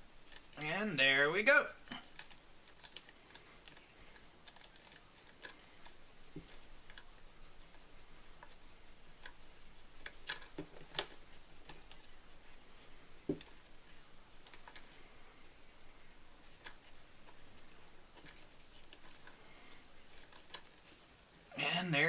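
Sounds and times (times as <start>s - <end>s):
cord ticks and rustles: 0.0s - 21.2s.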